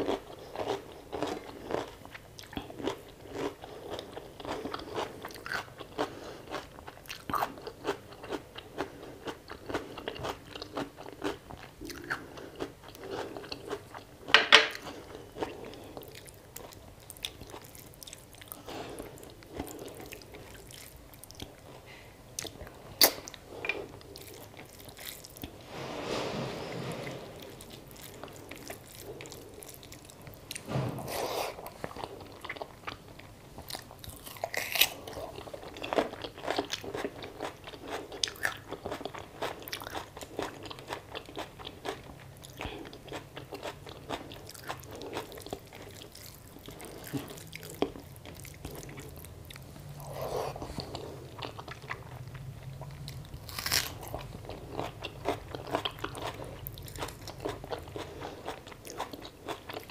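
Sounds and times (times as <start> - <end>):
chewing food: 0.0 - 25.6, 27.9 - 30.6, 31.4 - 59.9.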